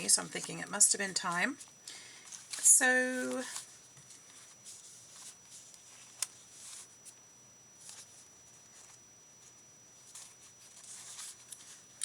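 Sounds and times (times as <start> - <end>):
paper rustling: 1.2 - 7.2, 7.8 - 12.0.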